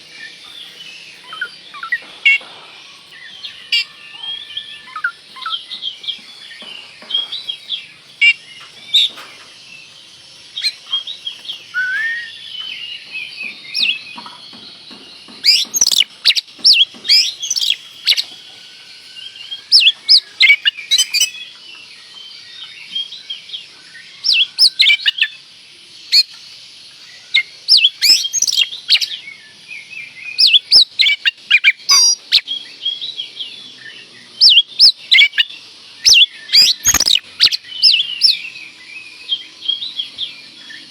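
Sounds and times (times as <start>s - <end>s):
bird singing whistles and chirps: 0.0s - 40.9s.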